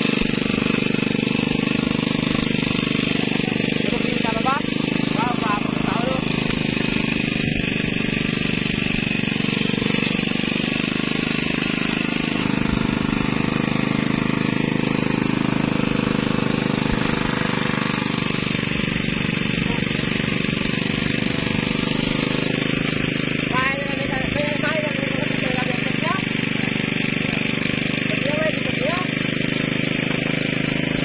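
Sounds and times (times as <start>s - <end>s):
boat engine chugging: 0.0s - 31.0s.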